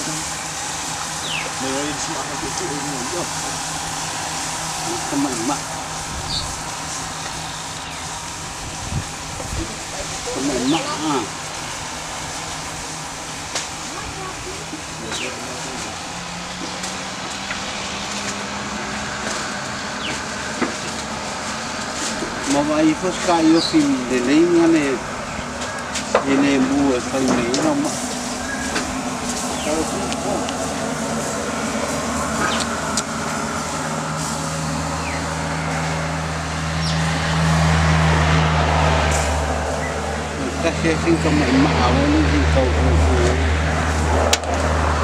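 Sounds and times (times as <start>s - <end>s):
sizzling hiss of hot stones: 0.0s - 45.0s
steady low hum: 0.0s - 45.0s.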